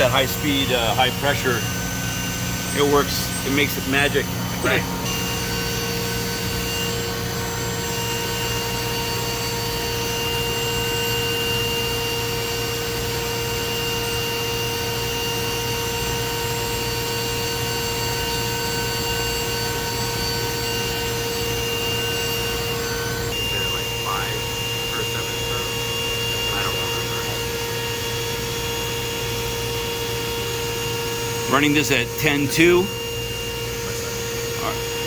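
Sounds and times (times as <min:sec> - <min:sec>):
machining center spindle whine: 0:00.0 - 0:35.0.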